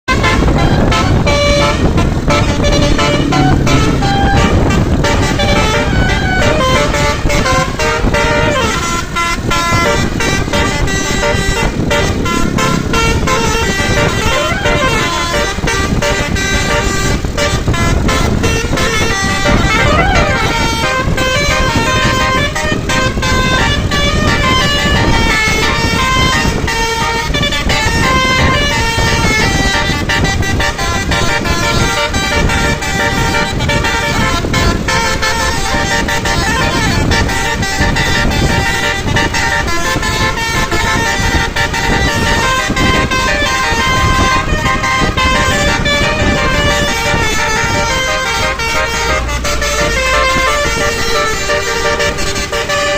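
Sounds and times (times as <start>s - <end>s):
bus engine rumble: 0.0s - 52.9s
musical air horn tune: 0.0s - 52.9s.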